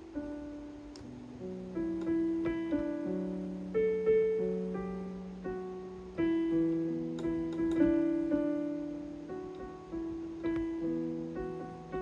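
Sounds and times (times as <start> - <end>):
digital keyboard notes and chords: 0.0 - 12.0.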